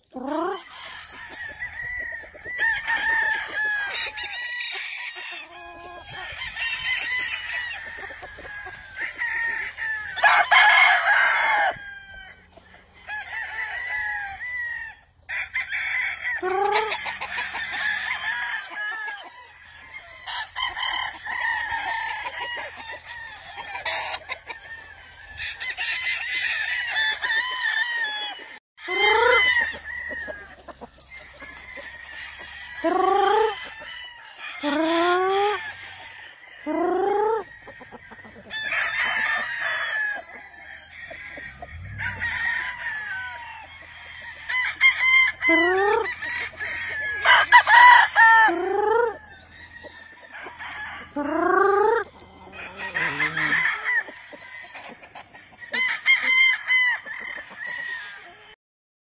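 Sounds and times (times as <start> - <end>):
chickens clucking: 0.0 - 14.2, 16.2 - 58.6
roosters crowing: 0.0 - 58.6.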